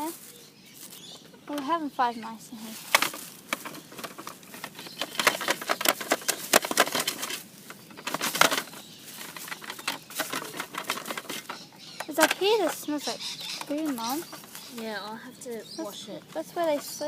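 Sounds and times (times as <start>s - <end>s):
cage litter crackling and rustling: 2.5s - 17.0s.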